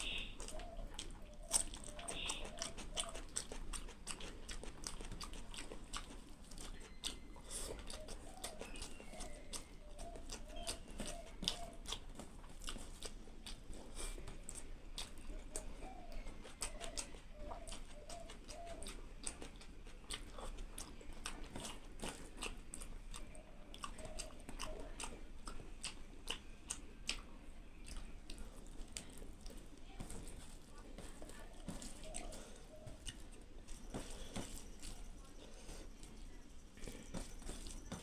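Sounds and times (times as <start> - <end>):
person chewing with mouth clicks: 0.0 - 38.0.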